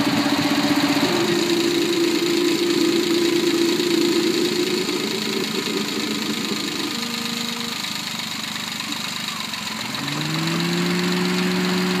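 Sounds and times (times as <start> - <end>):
car engine idling drone: 0.0 - 12.0.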